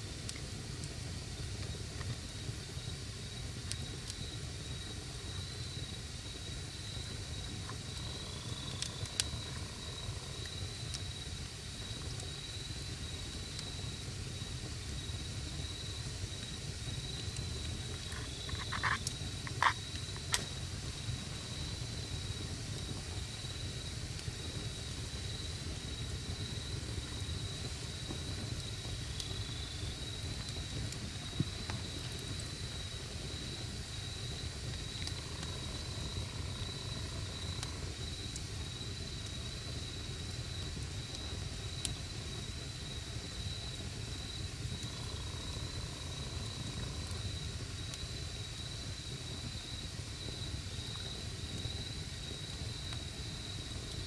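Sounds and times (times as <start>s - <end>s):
campfire burning: 0.0s - 54.0s
fire popping and cracking: 0.1s - 48.0s.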